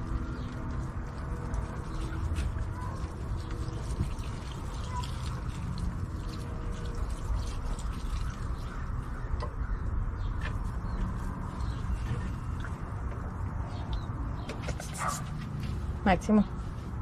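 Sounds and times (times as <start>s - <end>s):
birds calling faintly: 0.0s - 17.0s.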